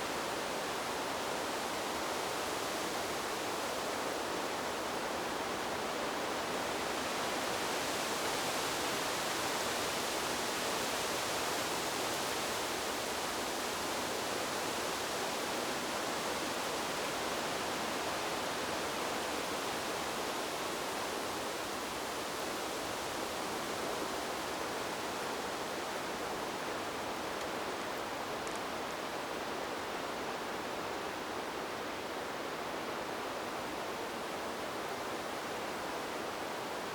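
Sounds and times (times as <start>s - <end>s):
wind through bamboo: 0.0s - 36.9s.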